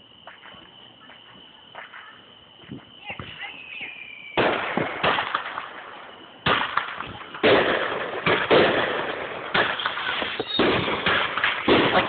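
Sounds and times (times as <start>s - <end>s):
fireworks booming with echo: 0.0s - 12.0s.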